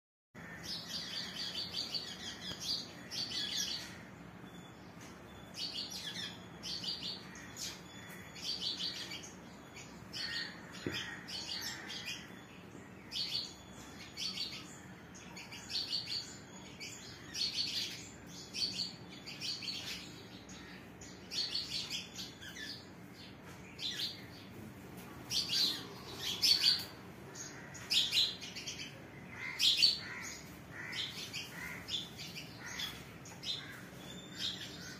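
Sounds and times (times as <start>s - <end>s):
birds chirping: 0.4s - 34.9s.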